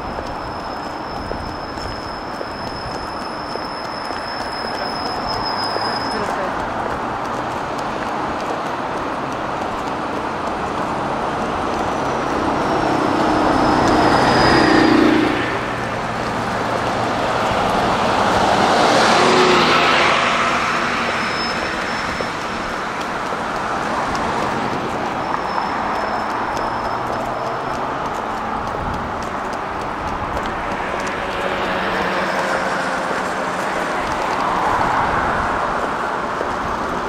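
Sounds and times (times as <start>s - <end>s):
steady road noise: 0.0s - 37.0s
vehicles passing close by: 0.0s - 37.0s.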